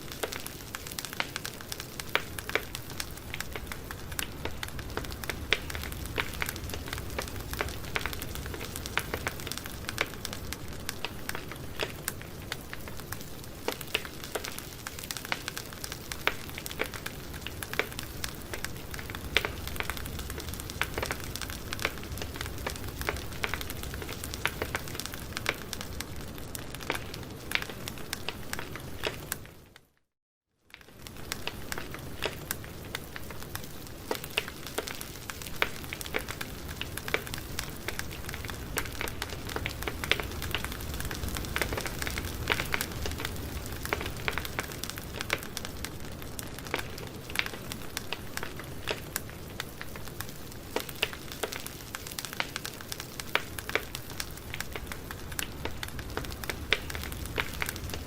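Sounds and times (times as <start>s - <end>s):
campfire wood crackling: 0.0s - 29.9s, 30.6s - 58.0s.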